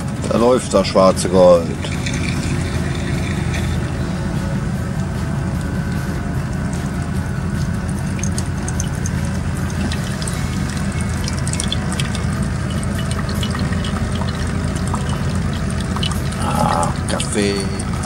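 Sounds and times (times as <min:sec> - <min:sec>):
coffee machine hum: 0:00.0 - 0:18.0
coffee dripping into mug: 0:01.7 - 0:04.1, 0:05.0 - 0:18.0.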